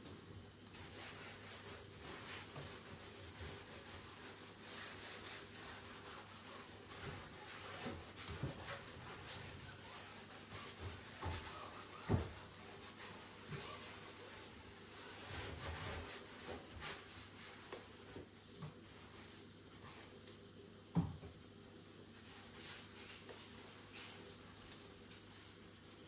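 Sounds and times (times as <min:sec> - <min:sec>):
sponge scrubbing: 0:00.7 - 0:20.1, 0:22.1 - 0:26.0.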